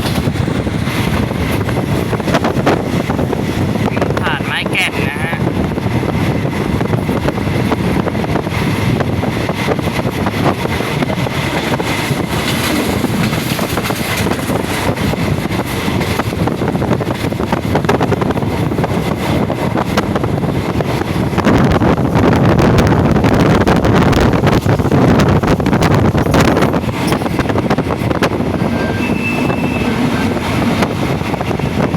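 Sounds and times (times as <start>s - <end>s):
train wheels rumbling on rail: 0.0s - 31.9s
wind buffeting microphone: 0.0s - 31.9s.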